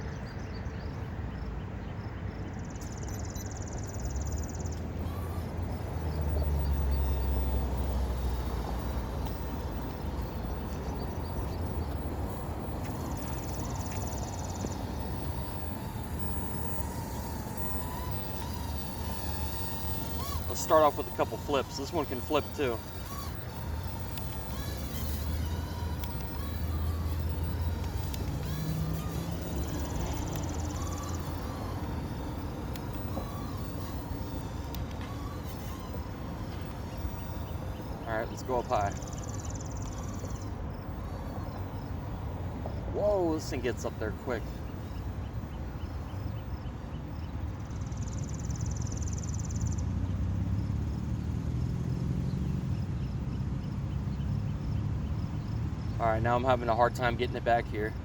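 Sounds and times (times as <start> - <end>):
insects chirping: 0.0 - 58.0
toy drone rotors whirring: 2.7 - 58.0.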